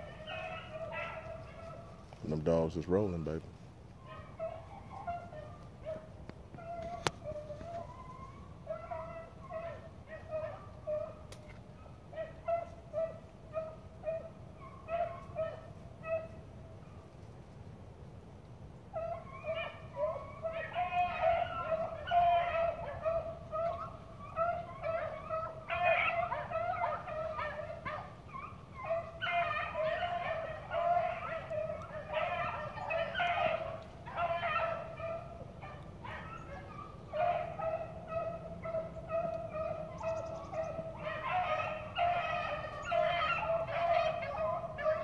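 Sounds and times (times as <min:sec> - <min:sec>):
hounds baying in chorus: 0:00.0 - 0:17.3, 0:18.8 - 0:45.0.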